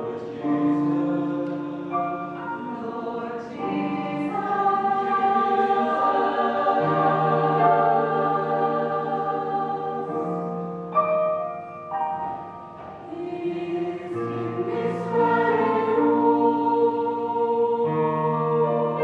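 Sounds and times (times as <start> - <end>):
mixed choir singing: 0.0 - 10.9, 12.8 - 19.0.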